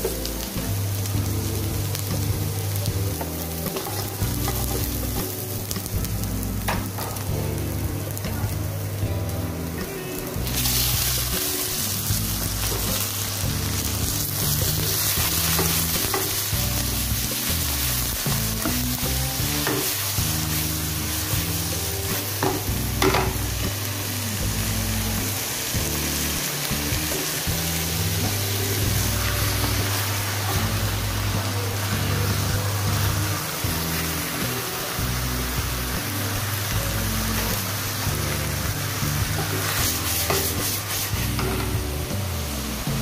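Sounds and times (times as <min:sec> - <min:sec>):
livers sizzling in hot oil: 0:00.0 - 0:43.0.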